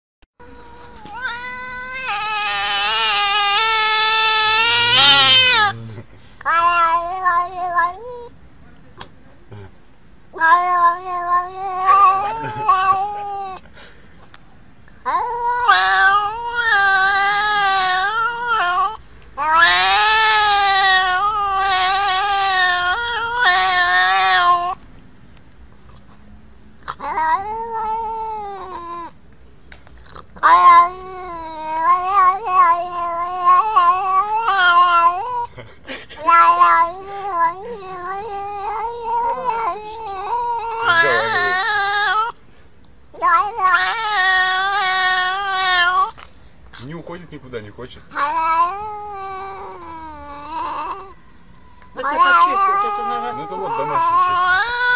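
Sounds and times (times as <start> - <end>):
cat yowling: 0.4 - 8.4, 10.3 - 13.6, 15.0 - 24.8, 26.8 - 29.2, 30.4 - 35.6, 36.2 - 42.4, 43.1 - 46.2, 48.1 - 54.9.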